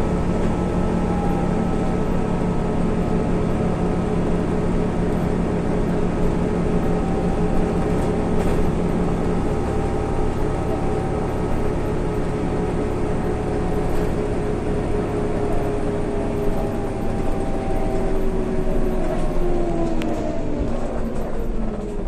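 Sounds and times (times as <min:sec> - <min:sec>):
bus engine and drivetrain hum: 0:00.0 - 0:22.0
road noise: 0:00.0 - 0:22.0.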